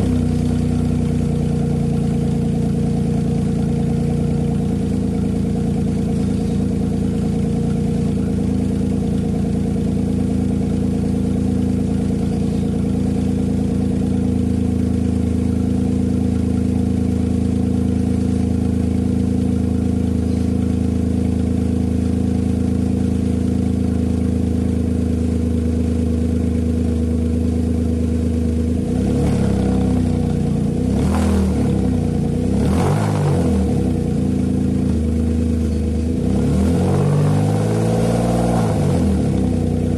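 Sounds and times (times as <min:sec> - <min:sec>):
car exhaust idling and revving: 0:00.0 - 0:39.9.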